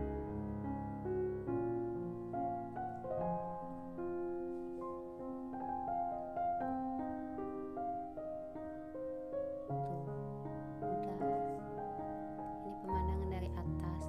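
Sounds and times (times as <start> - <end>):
slow piano tune: 0.0 - 14.0.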